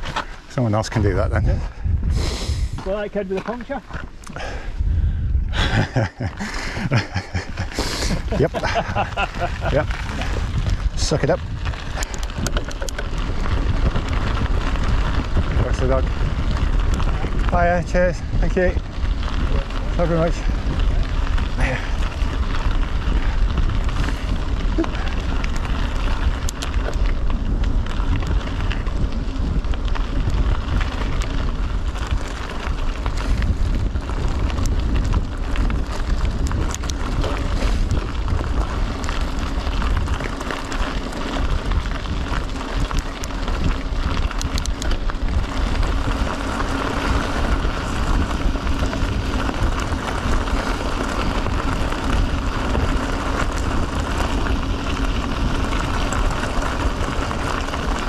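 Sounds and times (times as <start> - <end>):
bike tyres crunching on gravel: 0.0 - 58.0
wind buffeting microphone: 0.0 - 58.0.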